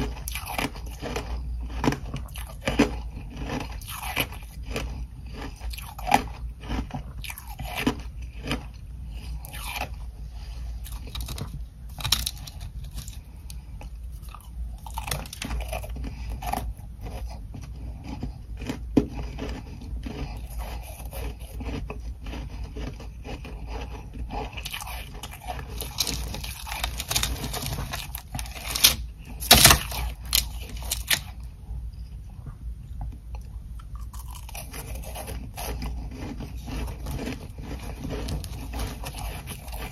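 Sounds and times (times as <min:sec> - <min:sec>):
crunchy chewing of ice: 0:00.0 - 0:32.1, 0:33.3 - 0:39.9
faint low hum: 0:00.0 - 0:39.9.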